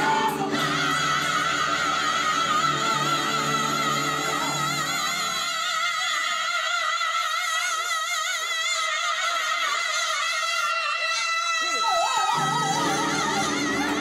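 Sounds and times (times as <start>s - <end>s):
women singing high note: 0.0s - 14.0s.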